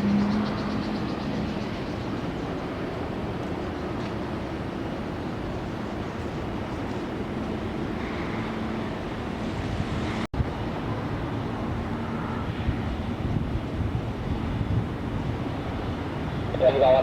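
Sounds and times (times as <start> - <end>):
jet engine noise: 0.0 - 17.0
wind buffeting microphone: 0.0 - 17.0.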